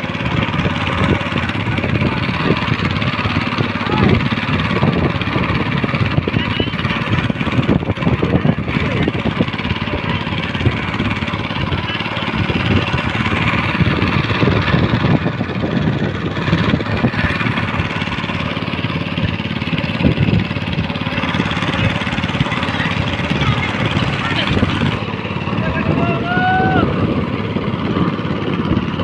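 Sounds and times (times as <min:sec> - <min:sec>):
boat engine running: 0:00.0 - 0:29.0
moving water: 0:00.0 - 0:29.0.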